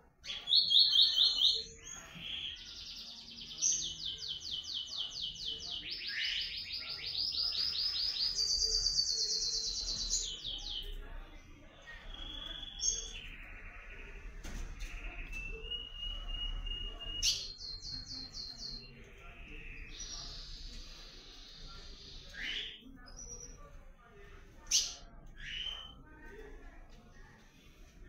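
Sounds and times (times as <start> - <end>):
bird singing trilled phrases: 0.2 - 11.0, 11.8 - 23.7, 24.7 - 26.1.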